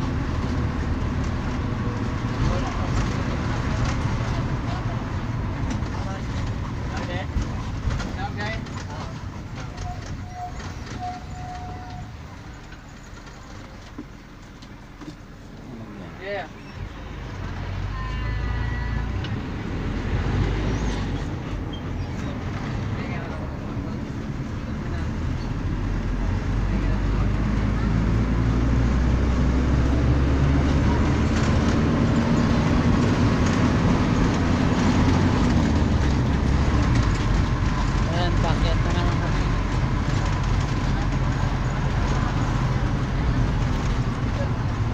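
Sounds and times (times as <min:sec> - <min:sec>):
vehicle engine and road rumble: 0:00.0 - 0:44.9.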